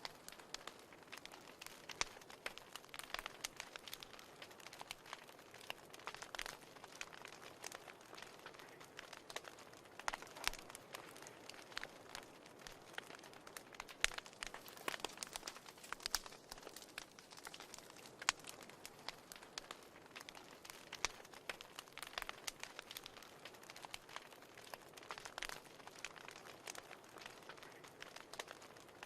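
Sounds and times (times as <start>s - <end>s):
fire crackling in fireplace: 0.0s - 29.0s.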